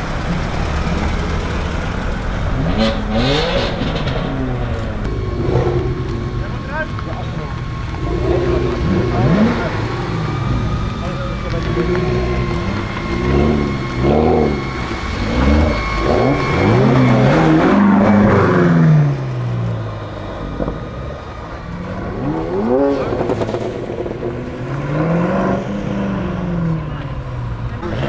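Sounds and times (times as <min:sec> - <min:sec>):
car exhaust revving: 0:00.0 - 0:28.0.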